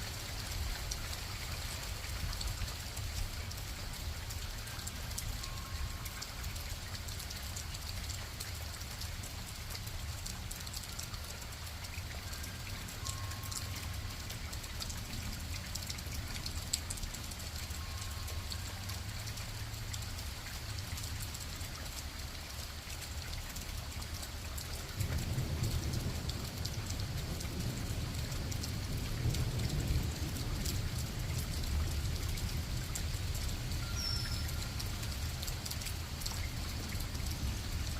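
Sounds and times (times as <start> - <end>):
raindrops pattering: 0.0 - 37.9.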